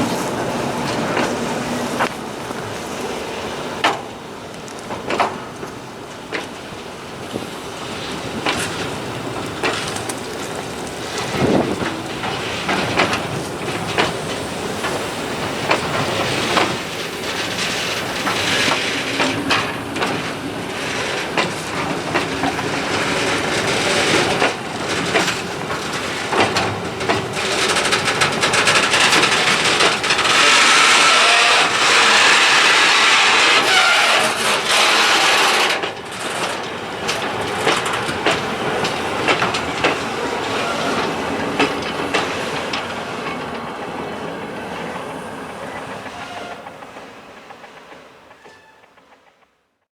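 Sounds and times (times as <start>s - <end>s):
freight train rolling past: 0.0s - 49.8s
hissing grinding of train: 0.0s - 49.8s
wheels clicking over rail joints: 0.0s - 49.8s.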